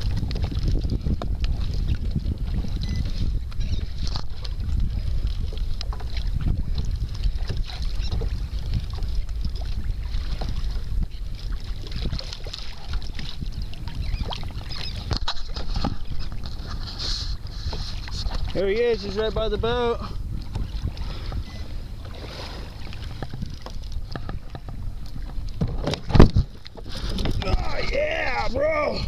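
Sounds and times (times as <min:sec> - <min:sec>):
water lapping against kayak: 0:00.0 - 0:29.0
wind buffeting microphone: 0:00.0 - 0:29.0.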